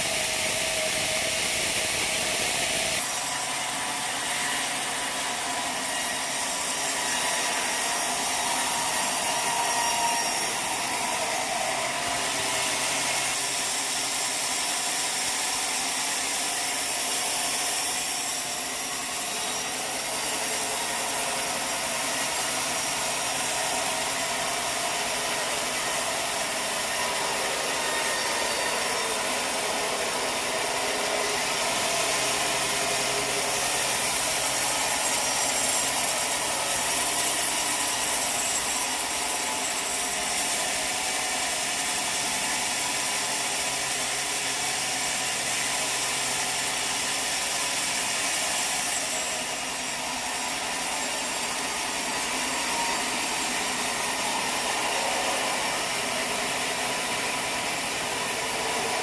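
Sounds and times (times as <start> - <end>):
saw blade cutting log: 0.0 - 59.0.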